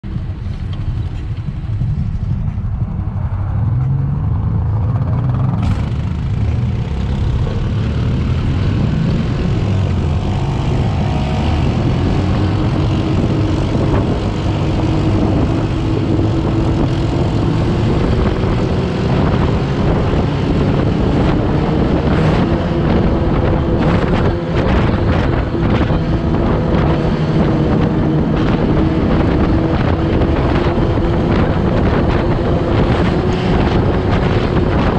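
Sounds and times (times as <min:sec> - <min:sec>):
dune buggy engine accelerating: 0:00.1 - 0:34.9
wind buffeting microphone: 0:00.1 - 0:34.9.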